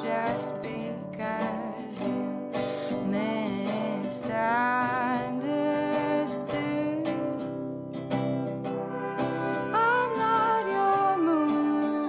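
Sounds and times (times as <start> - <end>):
person singing: 0.0 - 7.7, 9.2 - 12.0
acoustic guitar: 0.0 - 12.0.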